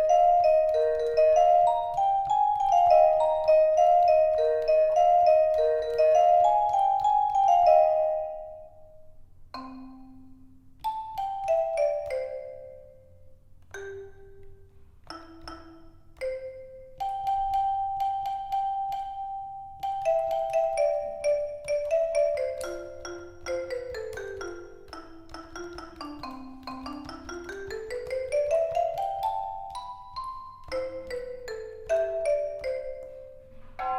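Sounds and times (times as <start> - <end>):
keyboard mallet-like notes: 0.0 - 33.9.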